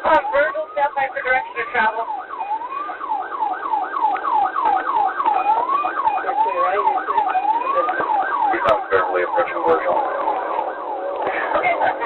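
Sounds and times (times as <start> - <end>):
police siren wailing and yelping: 0.0 - 12.0.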